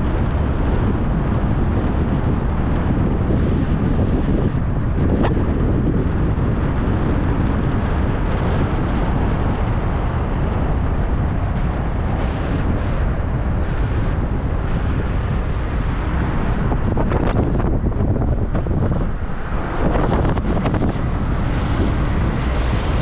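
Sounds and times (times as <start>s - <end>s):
car wind and road noise: 0.0s - 23.0s
wind rumbling on microphone: 0.0s - 23.0s.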